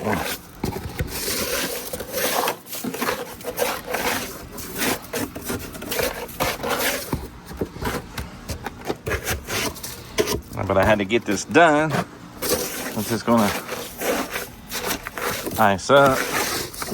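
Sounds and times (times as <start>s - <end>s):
hand tool scraping ice: 0.0s - 16.9s.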